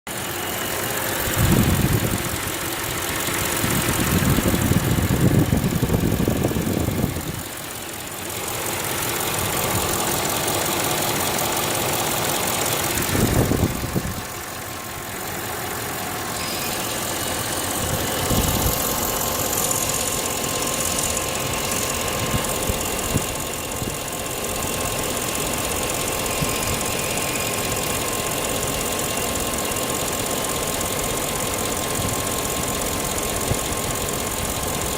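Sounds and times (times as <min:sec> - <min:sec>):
car engine idling and revving: 0:00.1 - 0:34.9.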